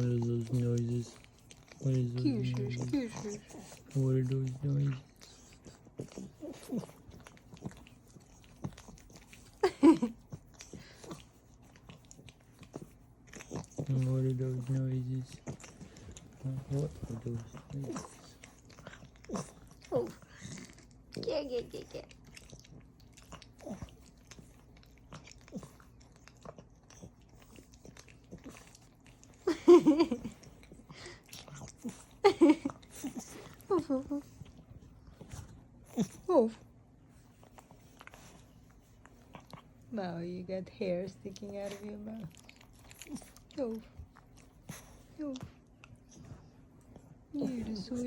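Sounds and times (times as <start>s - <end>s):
puppy licking and smacking: 0.0s - 48.0s.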